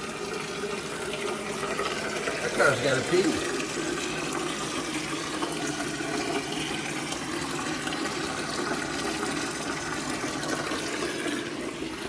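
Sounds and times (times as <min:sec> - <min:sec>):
water pouring in a stream: 0:00.0 - 0:12.0.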